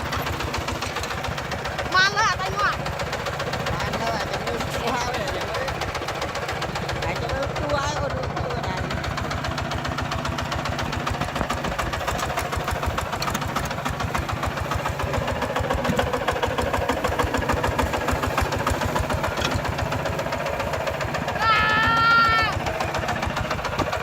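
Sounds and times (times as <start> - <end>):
diesel tractor engine chugging: 0.0 - 24.0.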